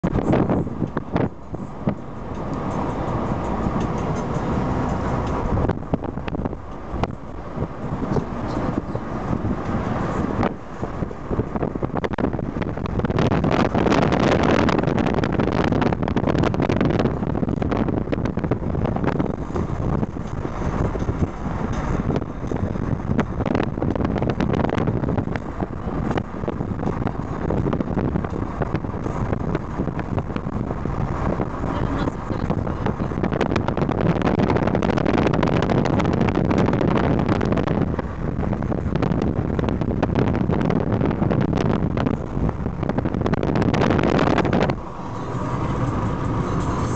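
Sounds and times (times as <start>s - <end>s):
truck passing: 0.0s - 46.9s
vehicle rumble on dirt road: 0.0s - 46.9s
wind on microphone: 0.0s - 46.9s.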